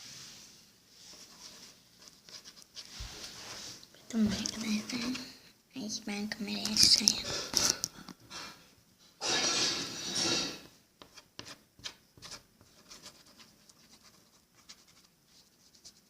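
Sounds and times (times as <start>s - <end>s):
rubbing and scraping handling noise: 0.0s - 5.4s, 6.5s - 16.0s.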